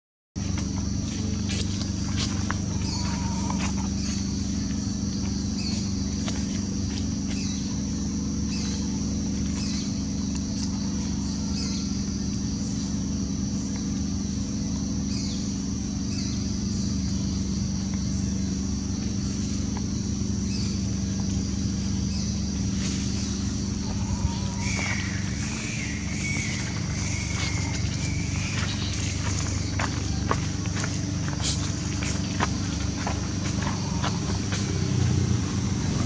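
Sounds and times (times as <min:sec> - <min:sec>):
low mechanical hum: 0:00.4 - 0:36.0
high-pitched drone: 0:00.5 - 0:36.0.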